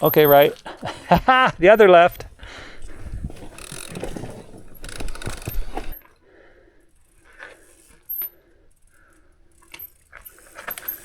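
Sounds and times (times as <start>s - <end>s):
bike rattling over rocks: 0.0s - 6.2s, 6.9s - 11.0s
bike freehub ratchet clicking: 0.0s - 11.0s.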